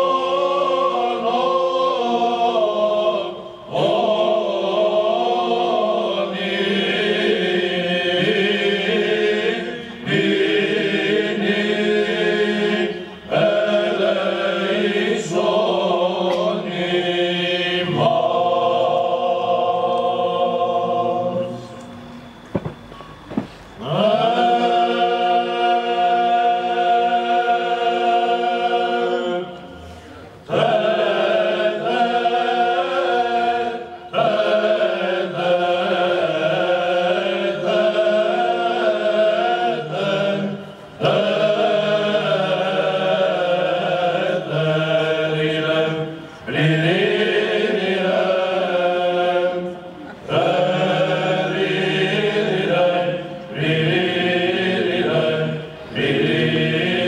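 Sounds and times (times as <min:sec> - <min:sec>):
male choir chanting: 0:00.0 - 0:22.8, 0:23.4 - 0:57.0
low held vocal drone: 0:00.0 - 0:57.0.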